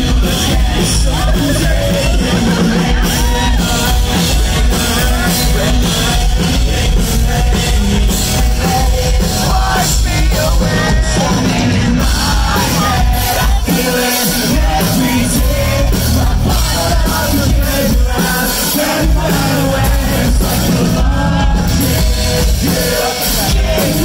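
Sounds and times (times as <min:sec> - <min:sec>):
loud guitars: 0:00.0 - 0:24.0
steady drum beat: 0:00.0 - 0:24.0
sung vocals: 0:00.0 - 0:24.0.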